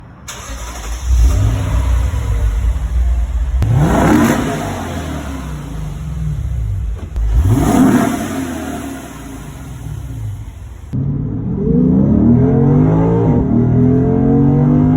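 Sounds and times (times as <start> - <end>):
car engine rumbling and revving: 0.3 - 14.9.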